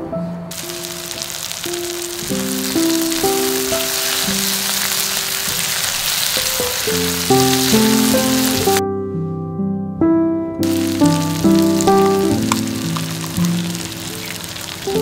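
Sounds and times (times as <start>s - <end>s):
vegetables sizzling in oil: 0.5s - 8.8s, 10.6s - 15.0s.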